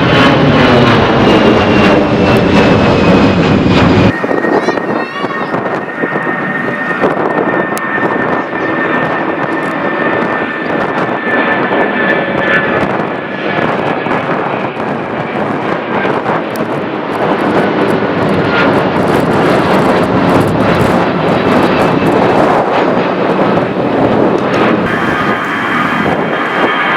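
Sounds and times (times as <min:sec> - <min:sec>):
high jet engine whine: 0:00.0 - 0:26.9
jet engines roaring: 0:00.0 - 0:26.9.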